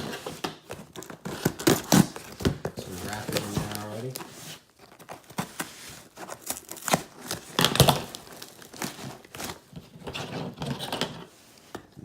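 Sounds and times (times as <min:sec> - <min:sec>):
cardboard box being opened: 0:00.0 - 0:10.9
packing tape tearing: 0:00.0 - 0:11.3.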